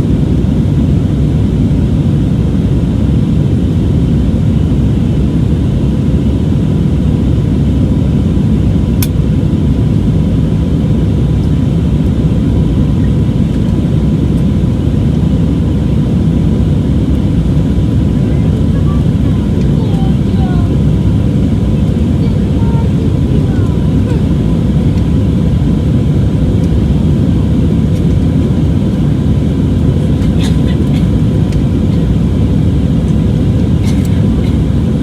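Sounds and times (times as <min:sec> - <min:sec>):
aircraft cabin engine rumble: 0:00.0 - 0:35.0
faint steady whine: 0:00.0 - 0:35.0.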